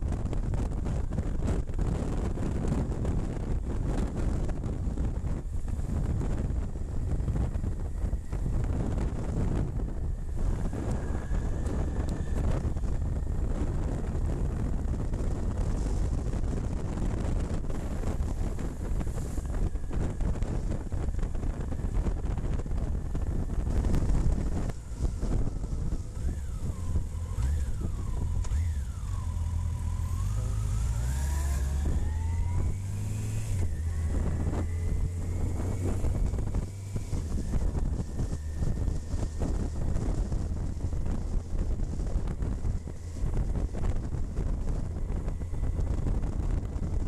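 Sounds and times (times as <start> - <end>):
motorcycle engine rumble: 0.0 - 47.0
wind buffeting microphone: 0.0 - 47.0.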